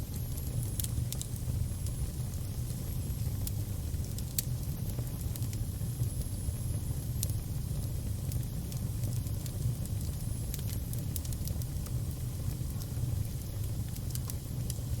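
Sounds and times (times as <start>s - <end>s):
fire crackling and popping: 0.0s - 15.0s
low rumble of flame: 0.0s - 15.0s.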